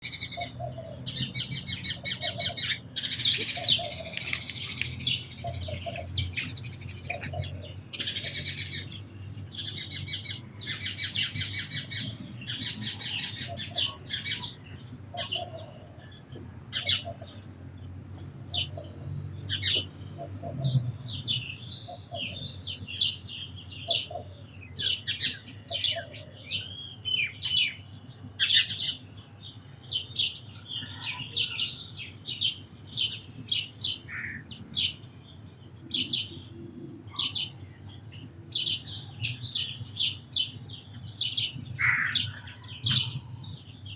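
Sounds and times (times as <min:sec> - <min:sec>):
sparrows chirping: 0:00.0 - 0:43.9.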